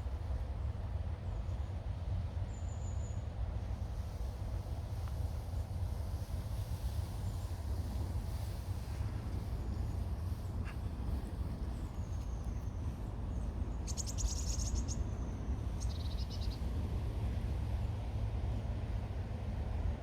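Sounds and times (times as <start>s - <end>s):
low outdoor rumble: 0.1s - 20.0s.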